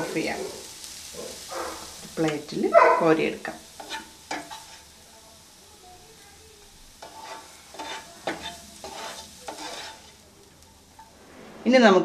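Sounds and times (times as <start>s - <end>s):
spatula scraping frying pan: 0.0s - 5.6s, 6.9s - 12.0s.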